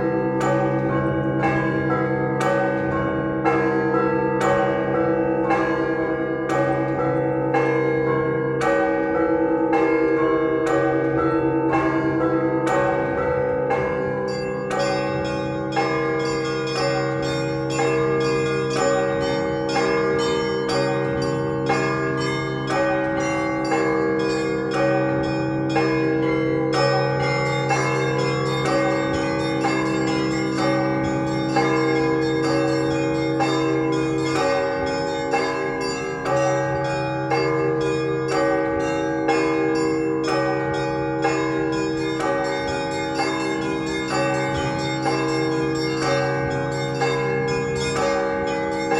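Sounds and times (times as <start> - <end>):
large bells humming: 0.0 - 48.9
small church bells chiming: 0.0 - 48.9.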